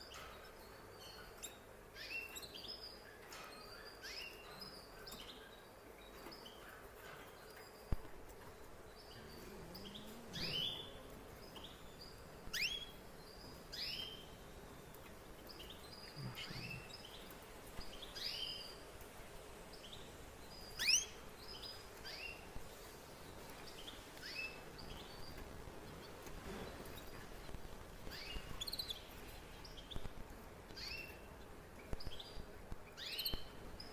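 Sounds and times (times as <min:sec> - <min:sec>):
canary chirping: 0:00.0 - 0:19.0, 0:19.6 - 0:33.9.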